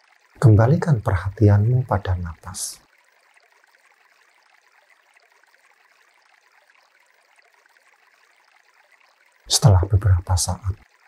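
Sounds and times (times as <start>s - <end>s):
faint running stream: 0.0s - 11.0s.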